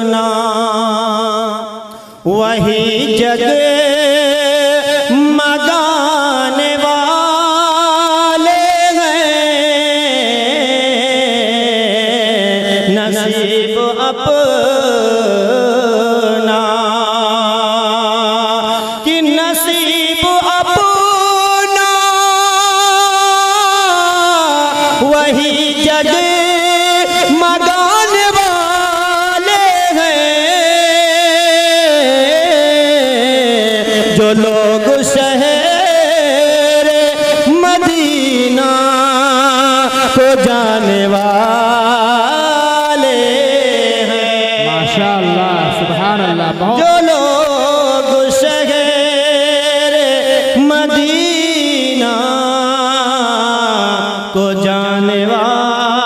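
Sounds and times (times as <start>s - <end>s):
man singing melisma: 0.0s - 56.0s.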